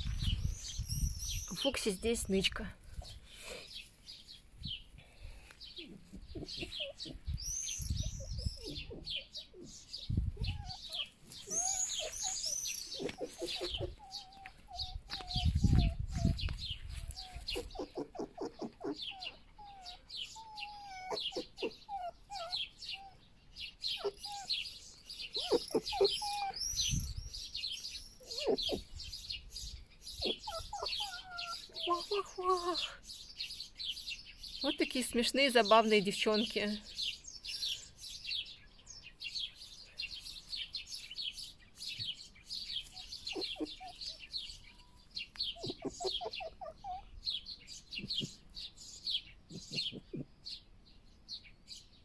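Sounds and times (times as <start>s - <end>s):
foxes chirping and squeaking: 0.0s - 34.1s, 39.2s - 50.7s.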